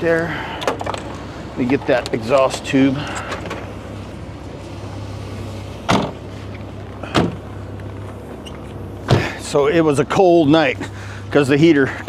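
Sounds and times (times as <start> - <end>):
engine idling hum: 0.0 - 12.0.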